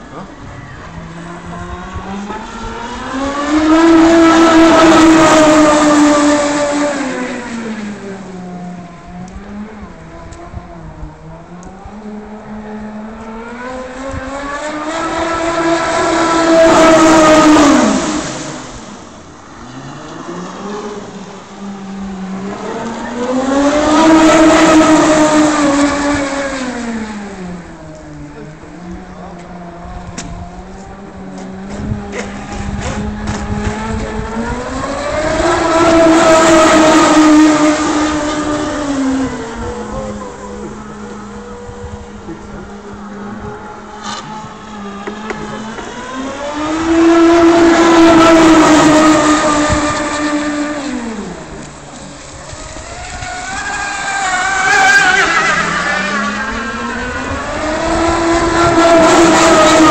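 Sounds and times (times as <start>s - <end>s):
electric motor boat high whine: 0.0s - 59.9s.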